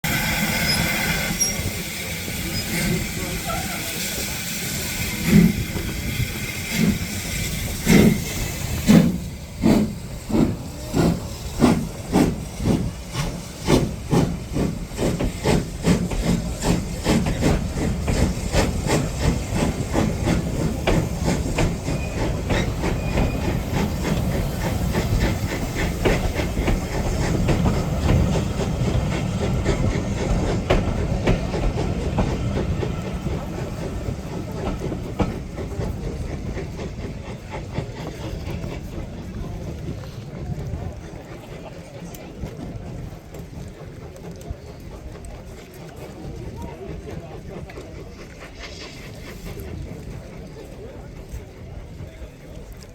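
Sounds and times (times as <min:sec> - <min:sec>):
steam hissing: 0:00.0 - 0:40.4, 0:43.8 - 0:51.7
steam locomotive chuffing: 0:00.0 - 0:52.9.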